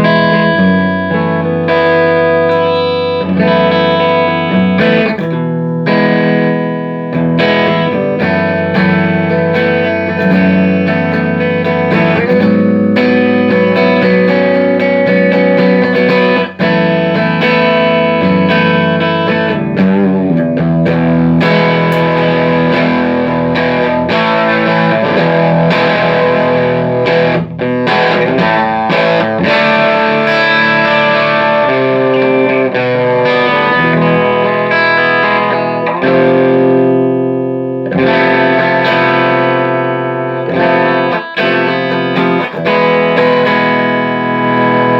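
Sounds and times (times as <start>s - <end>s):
electric guitar chords and notes: 0.0s - 44.9s.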